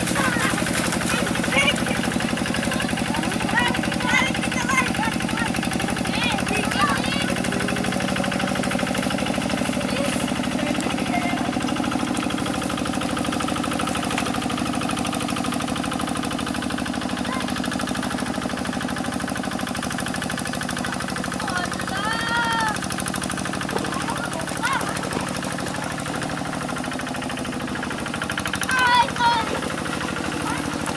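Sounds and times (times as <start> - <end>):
diesel engine knocking: 0.0 - 30.9.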